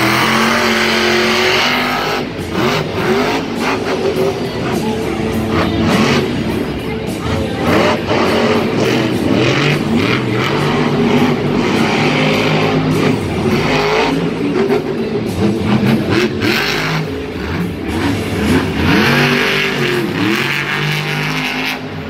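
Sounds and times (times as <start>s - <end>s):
monster truck engines revving: 0.0s - 22.0s.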